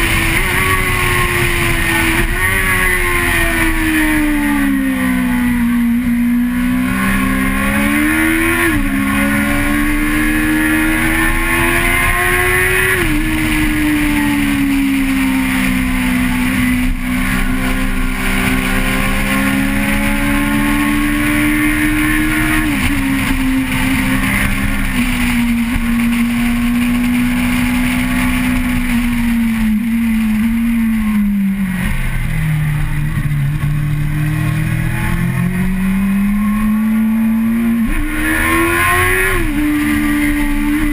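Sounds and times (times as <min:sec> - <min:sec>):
car engine revving through gears: 0:00.0 - 0:40.9
wind and road noise: 0:00.0 - 0:40.9.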